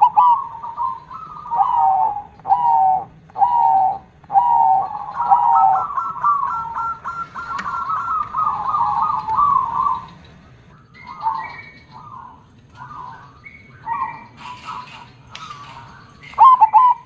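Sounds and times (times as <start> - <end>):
bird chirps: 0.0 - 17.0
dove cooing: 0.0 - 17.0.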